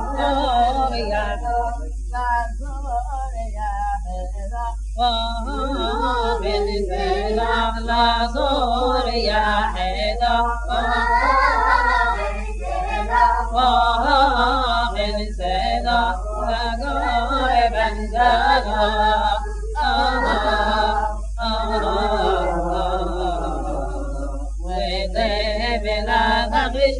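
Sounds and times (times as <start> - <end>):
man singing unaccompanied chant: 0.0 - 26.9
steady low hum: 0.0 - 26.9.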